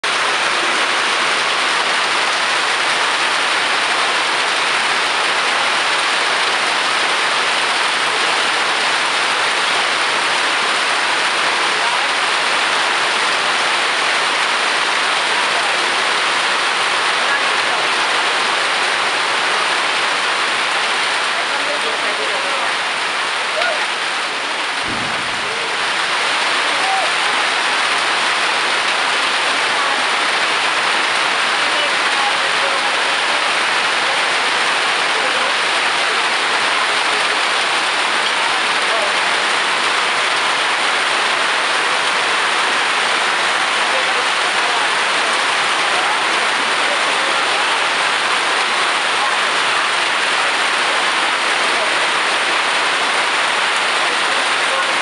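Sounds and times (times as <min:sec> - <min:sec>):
rain pouring: 0:00.0 - 0:55.0.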